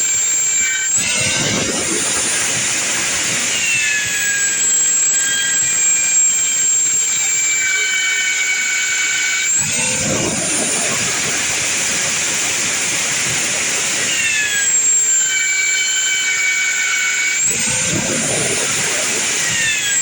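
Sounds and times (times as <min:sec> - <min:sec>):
power tool whining: 0:00.0 - 0:20.0.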